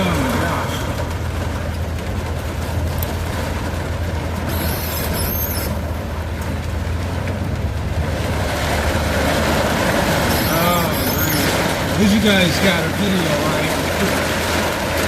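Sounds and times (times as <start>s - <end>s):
van engine droning: 0.0s - 15.0s.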